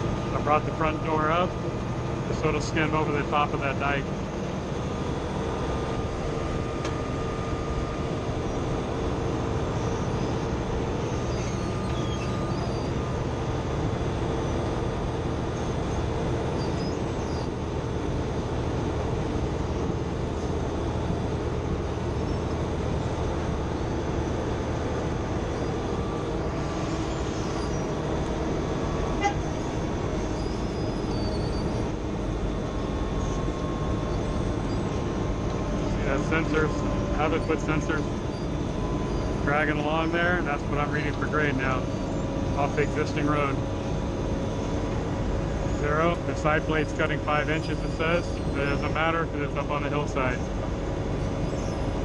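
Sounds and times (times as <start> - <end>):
asphalt milling machine running: 0.0 - 52.0.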